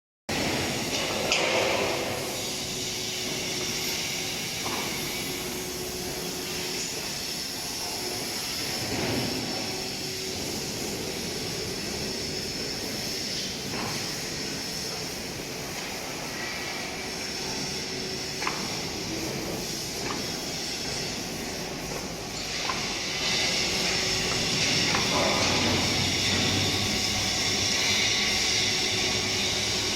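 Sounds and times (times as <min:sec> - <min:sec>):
workshop machinery hiss and hum: 0:00.3 - 0:29.9.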